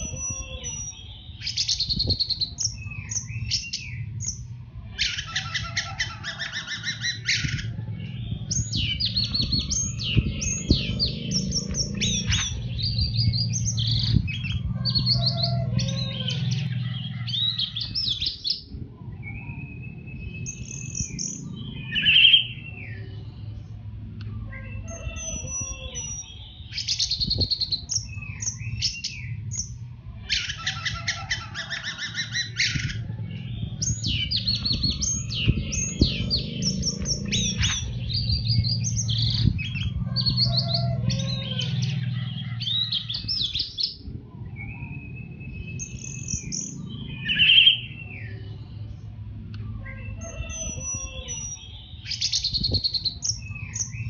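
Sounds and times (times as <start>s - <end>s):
thrush singing trills and whistles: 0.0s - 23.6s, 24.2s - 54.0s
low background rumble: 0.0s - 54.0s.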